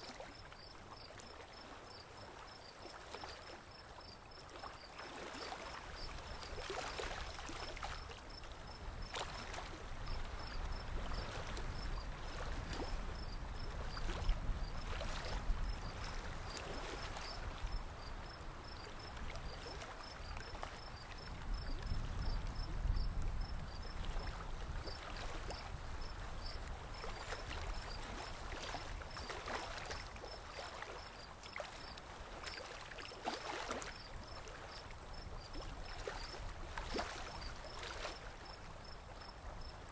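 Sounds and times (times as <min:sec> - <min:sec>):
water sloshing against boat hull: 0:00.0 - 0:22.7, 0:23.4 - 0:39.8.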